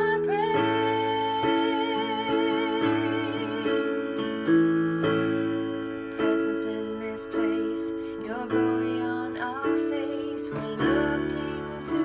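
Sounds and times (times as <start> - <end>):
woman singing with vibrato: 0.0 - 4.5, 5.6 - 12.0
instrumental chords: 0.0 - 12.0.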